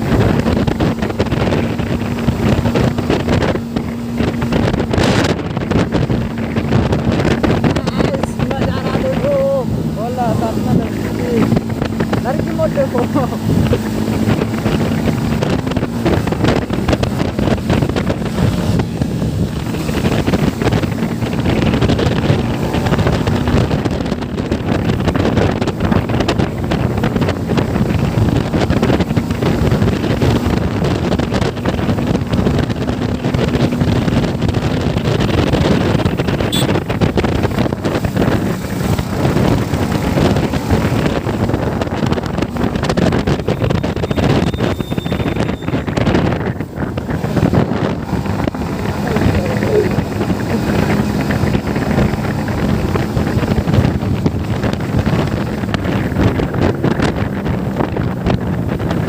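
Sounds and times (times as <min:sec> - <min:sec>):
motorcycle engine drone: 0:00.0 - 0:59.0
wind buffeting microphone: 0:00.0 - 0:59.0.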